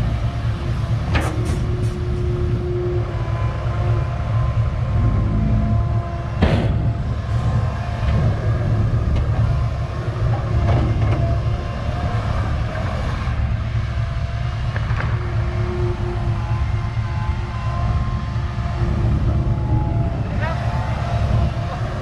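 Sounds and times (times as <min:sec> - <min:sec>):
excavator diesel engine rumble: 0:00.0 - 0:22.0.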